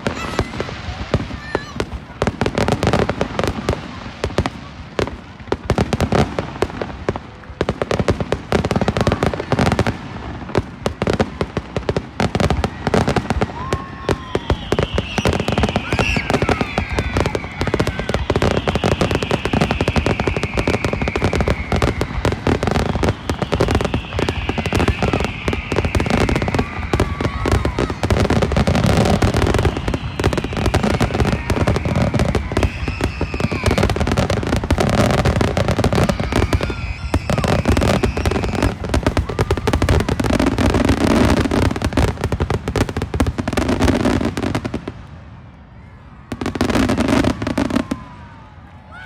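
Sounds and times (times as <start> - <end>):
fireworks whistles falling in pitch: 0.0 - 4.5, 12.2 - 44.8, 46.3 - 49.0
fireworks bangs and crackling: 0.0 - 49.0.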